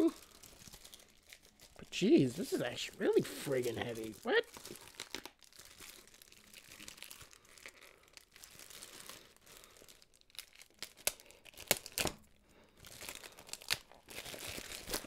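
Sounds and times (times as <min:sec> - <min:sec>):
plastic wrapping crinkling and tearing: 0:00.0 - 0:15.0.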